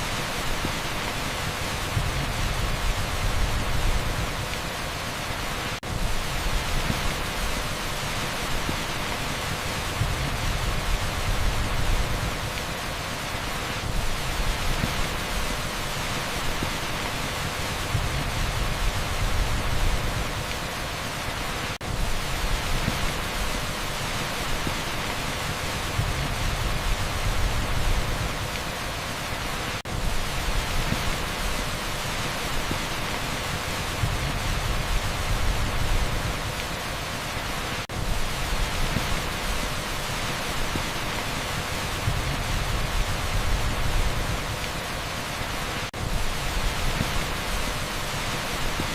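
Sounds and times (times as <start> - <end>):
heavy rain on asphalt: 0.0 - 48.9.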